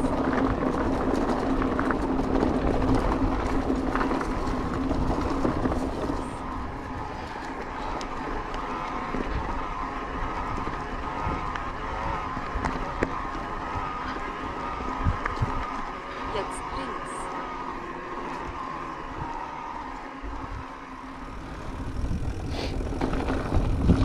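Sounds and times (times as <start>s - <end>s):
electric bike riding hum: 0.0s - 24.0s.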